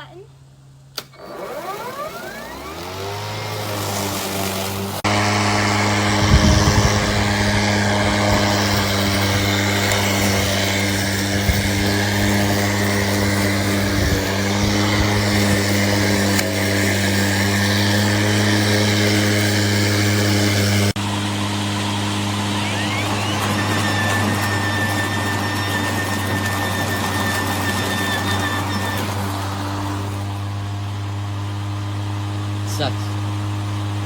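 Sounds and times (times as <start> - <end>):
electric lawn mower humming: 1.0 - 34.0.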